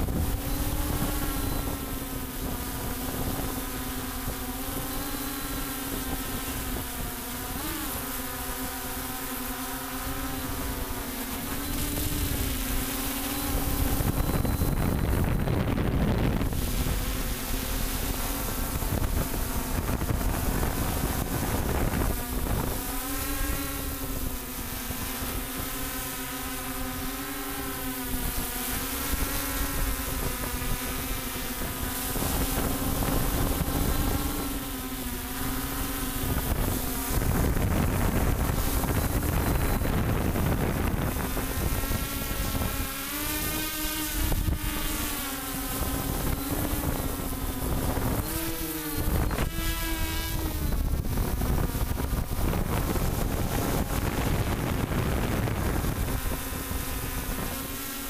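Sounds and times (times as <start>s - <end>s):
drone motors and propellers humming: 0.0s - 58.0s
wind rumbling on microphone: 0.0s - 58.0s.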